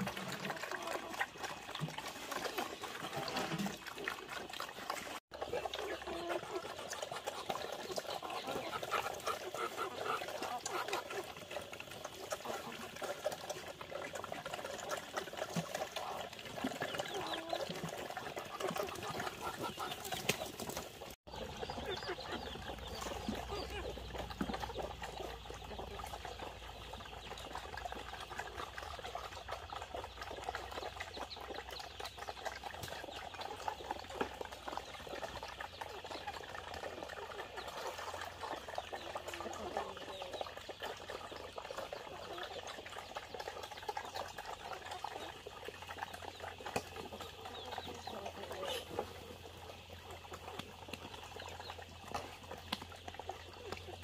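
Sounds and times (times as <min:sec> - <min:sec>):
animals chomping and pecking: 0:00.0 - 0:54.0.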